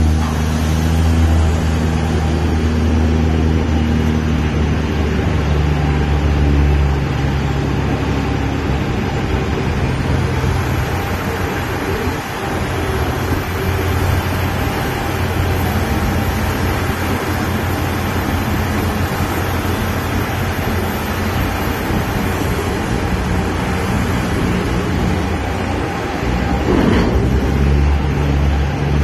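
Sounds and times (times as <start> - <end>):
crane machinery humming: 0.0 - 29.0.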